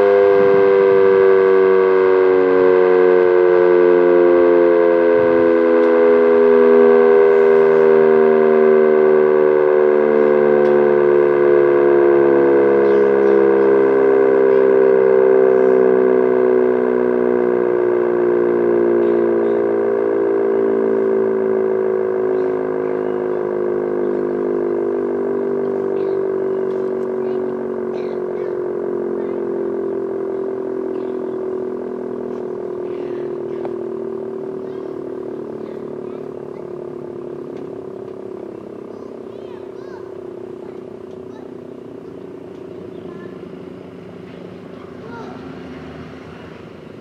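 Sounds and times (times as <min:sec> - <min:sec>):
warning siren winding down: 0:00.0 - 0:47.0.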